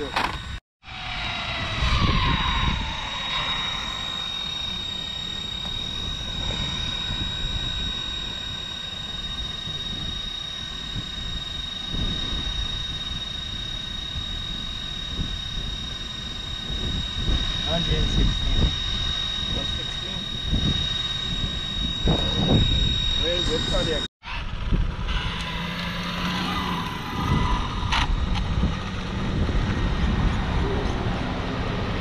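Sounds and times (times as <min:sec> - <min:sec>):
rc car whining: 0:00.0 - 0:31.1
wind rumble on microphone: 0:00.0 - 0:32.0.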